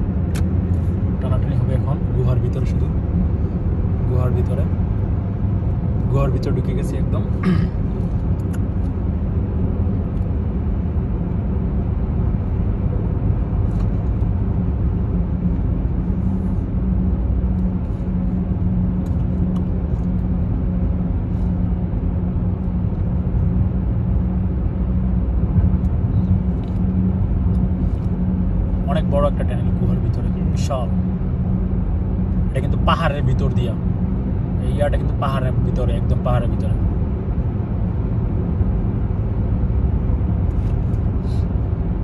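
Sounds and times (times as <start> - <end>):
car driving rumble: 0.0 - 42.0.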